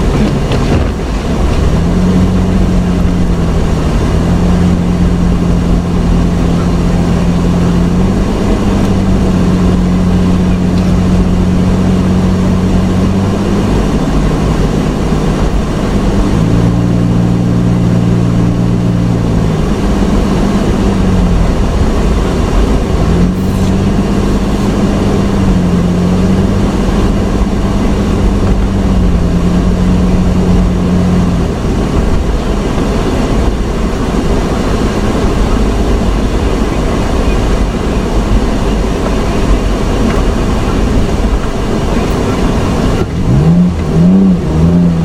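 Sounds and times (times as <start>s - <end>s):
loud steady rushing noise: 0.0s - 45.0s
vehicle engine while driving: 0.0s - 45.0s.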